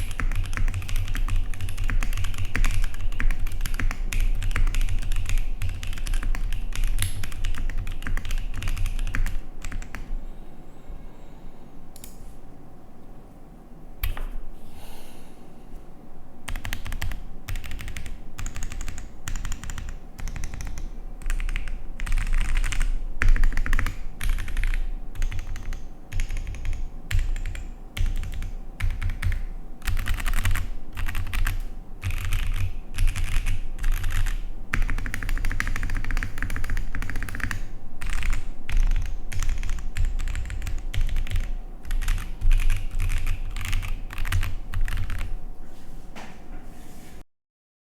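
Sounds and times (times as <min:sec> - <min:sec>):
mechanical keyboard typing: 0:00.0 - 0:10.1, 0:16.5 - 0:45.3.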